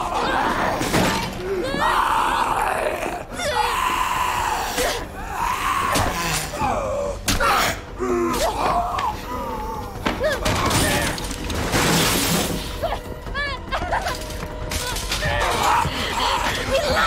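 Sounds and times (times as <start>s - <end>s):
people screaming and gasping: 0.0s - 11.4s, 12.8s - 17.0s.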